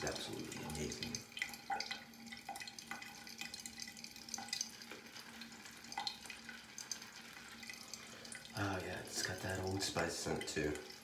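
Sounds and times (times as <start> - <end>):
water drips: 0.0 - 11.0.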